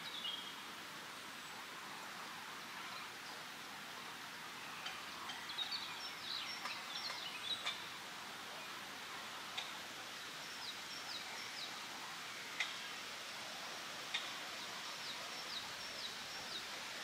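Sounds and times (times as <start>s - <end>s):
wind in leaves: 0.0s - 17.0s.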